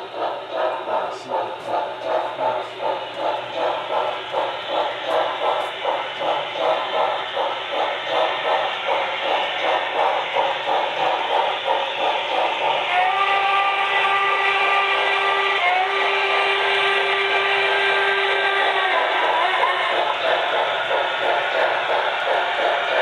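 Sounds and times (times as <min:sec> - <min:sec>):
model steam locomotive chuffing: 0:00.0 - 0:23.0.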